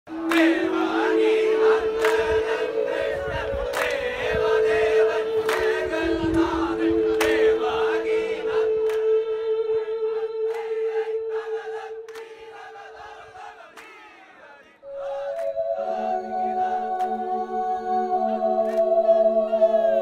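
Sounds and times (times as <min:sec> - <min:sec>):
crew chanting in chorus: 0:00.1 - 0:20.0.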